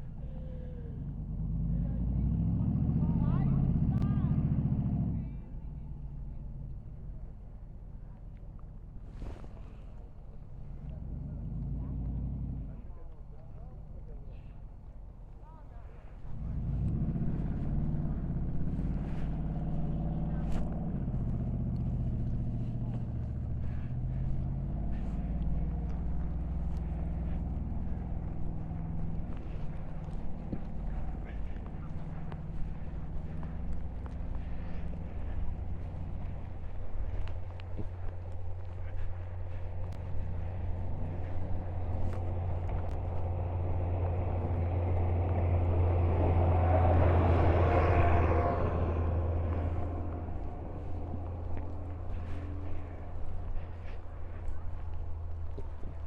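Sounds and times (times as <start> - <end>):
vehicle engine droning: 0.0 - 56.0
steady low hum: 5.2 - 56.0.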